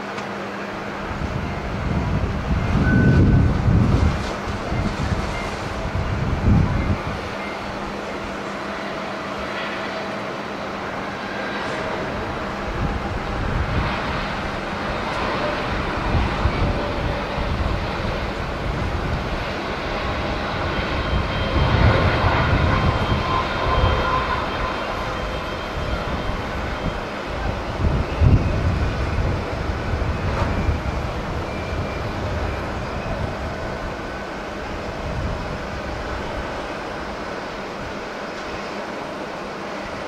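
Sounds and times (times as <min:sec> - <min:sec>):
jet engines roaring: 0:00.0 - 0:40.0
wind buffeting microphone: 0:00.7 - 0:09.6, 0:10.2 - 0:40.0.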